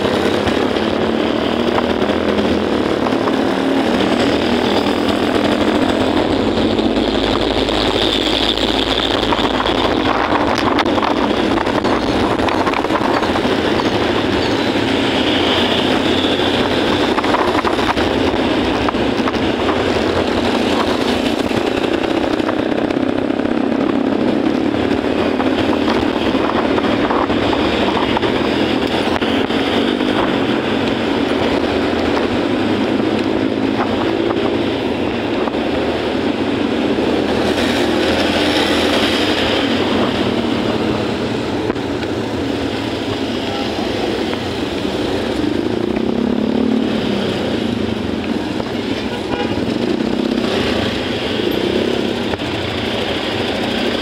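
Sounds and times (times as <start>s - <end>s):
city traffic: 0.0s - 54.0s
motorcycle engine running: 0.0s - 54.0s.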